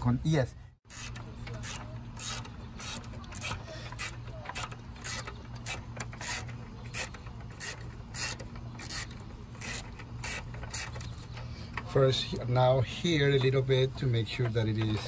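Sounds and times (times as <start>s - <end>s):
hand ratchet clicking: 0.9s - 15.0s.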